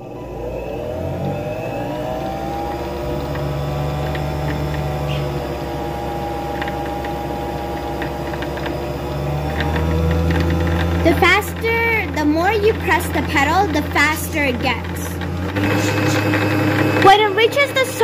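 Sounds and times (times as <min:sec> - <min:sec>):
sewing machine motor whining: 0:00.0 - 0:18.0.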